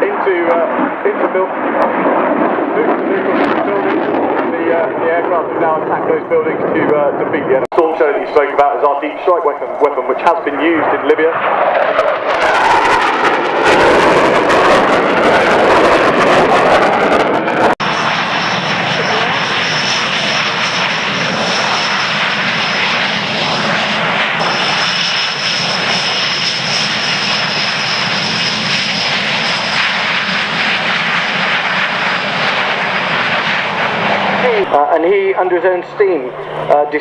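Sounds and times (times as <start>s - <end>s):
jet engines whining on ground: 0.0s - 37.0s
jet passing overhead: 0.0s - 37.0s.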